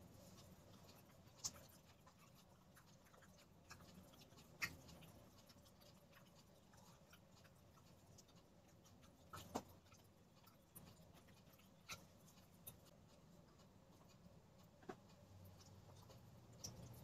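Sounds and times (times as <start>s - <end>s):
toddler eating clicks and smacks: 0.2s - 17.0s.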